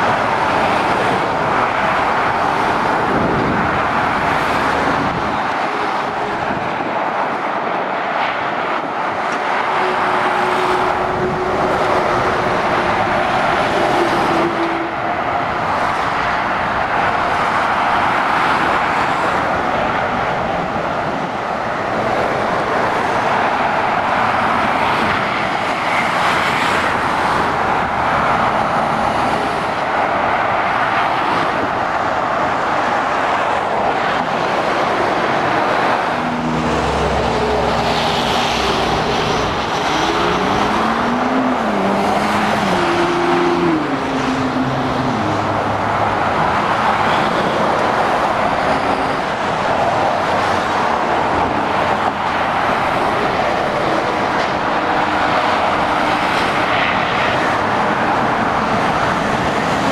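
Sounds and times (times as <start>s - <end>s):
diesel engine hum: 0.0s - 59.9s.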